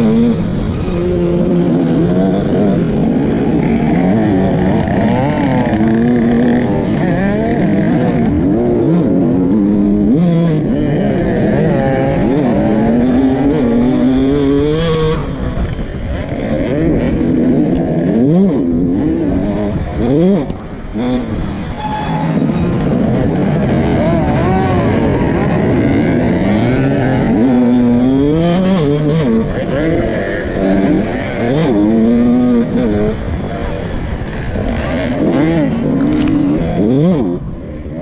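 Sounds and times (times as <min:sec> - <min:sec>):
dirt bike engine revving: 0:00.0 - 0:38.0
other dirt bike engines: 0:00.0 - 0:38.0.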